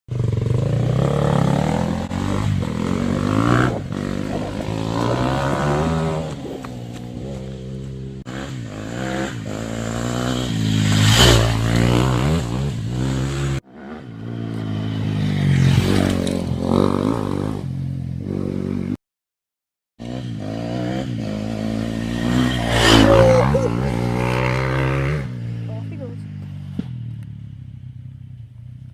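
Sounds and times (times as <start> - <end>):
dirt bike engine revving: 0.1 - 19.0, 20.0 - 26.0.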